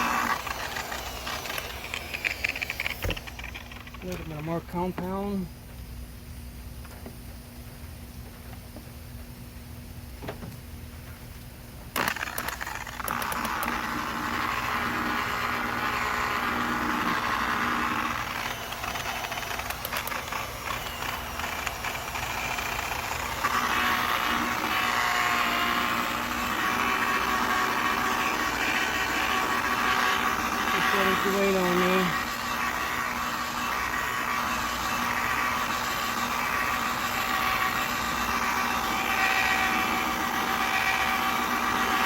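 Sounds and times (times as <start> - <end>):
electric buffer running: 0.0 - 5.6, 11.9 - 42.0.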